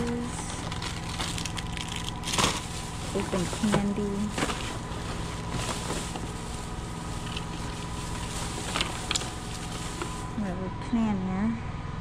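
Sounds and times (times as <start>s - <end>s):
plastic trash bags rustling: 0.0s - 10.4s
steady machine hum: 0.0s - 12.0s.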